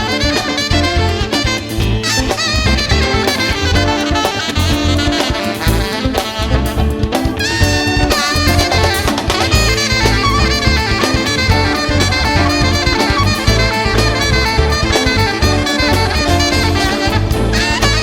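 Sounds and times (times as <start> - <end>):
drum kit: 0.0 - 18.0
saxophone and brass: 0.0 - 18.0
steady bass line: 0.0 - 18.0.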